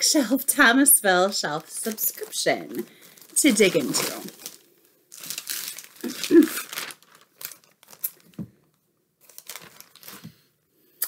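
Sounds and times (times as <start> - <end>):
packaging crinkling: 1.0 - 10.5.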